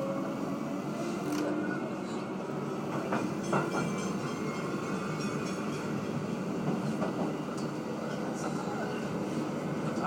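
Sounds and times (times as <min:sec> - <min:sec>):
train rumble inside carriage: 0:00.0 - 0:10.0.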